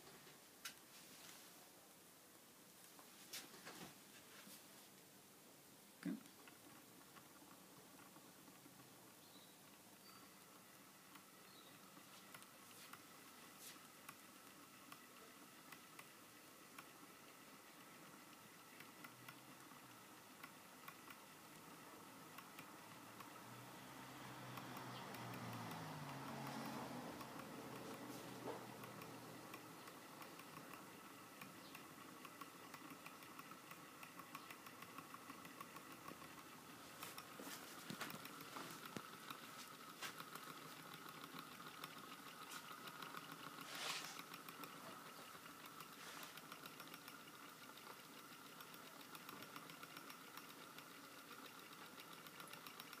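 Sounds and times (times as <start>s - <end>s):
thin steady whine: 0.0s - 53.0s
fast mechanical ticking: 6.4s - 53.0s.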